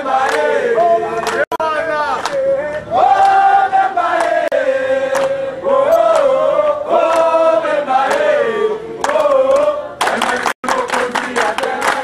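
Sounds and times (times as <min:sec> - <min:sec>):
people clapping: 0:00.0 - 0:05.4, 0:06.0 - 0:08.4, 0:09.0 - 0:12.0
crowd chanting in unison: 0:00.0 - 0:12.0.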